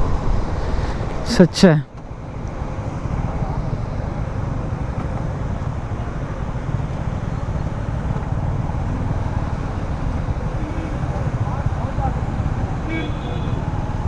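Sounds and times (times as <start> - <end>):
road and wind noise: 0.0 - 14.0
motorcycle engine rumble: 1.9 - 14.0.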